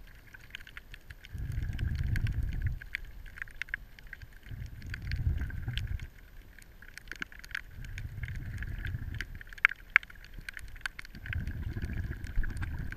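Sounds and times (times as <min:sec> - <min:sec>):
fine crackle: 0:00.0 - 0:12.9
underwater rushing water: 0:00.0 - 0:12.9.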